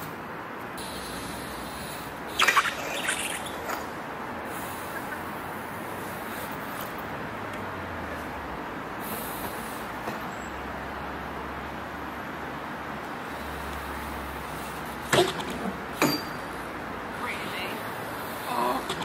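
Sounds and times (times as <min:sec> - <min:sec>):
steady outdoor rumble: 0:00.0 - 0:19.0.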